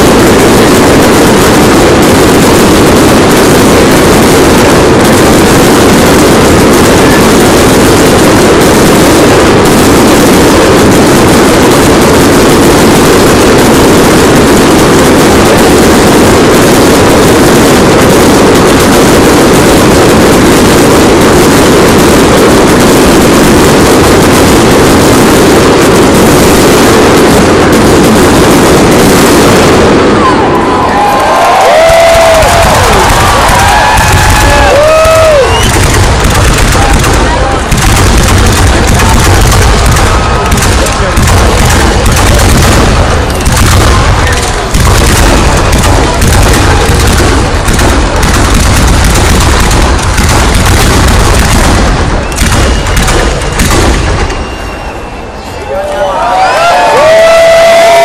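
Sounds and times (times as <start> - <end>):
firework fountains hissing: 0.0 - 58.0.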